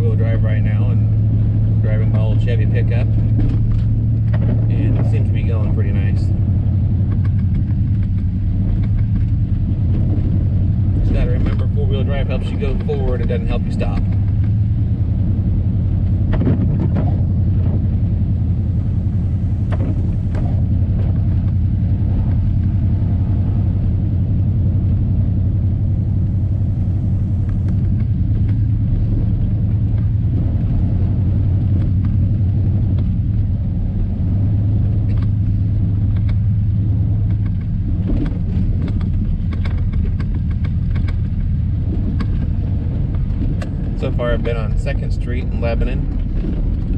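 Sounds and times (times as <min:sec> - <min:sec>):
pickup truck engine rumbling: 0:00.0 - 0:46.9.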